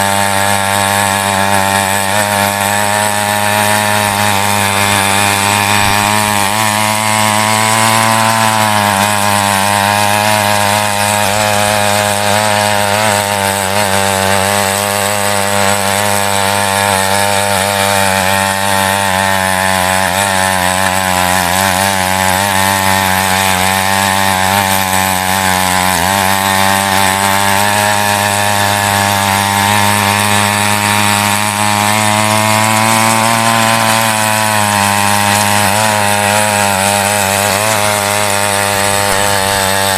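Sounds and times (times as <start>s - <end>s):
small petrol engine running: 0.0s - 39.9s
tines digging through soil: 0.0s - 39.9s.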